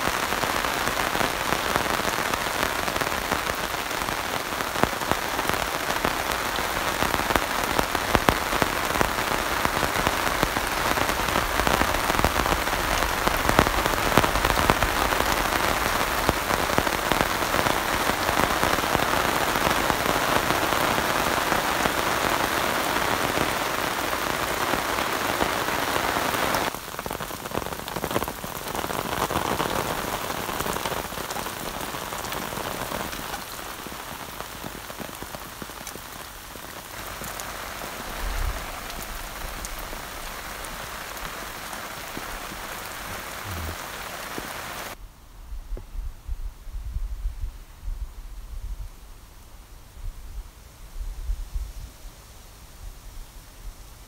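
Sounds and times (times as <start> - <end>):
heavy rain on a canvas tarp: 0.0 - 45.1, 45.7 - 54.0
light rain in forest: 0.0 - 54.0.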